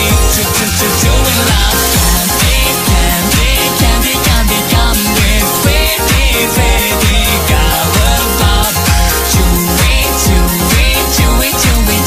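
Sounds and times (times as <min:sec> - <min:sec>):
music with deep bass drum beat: 0:00.0 - 0:12.0.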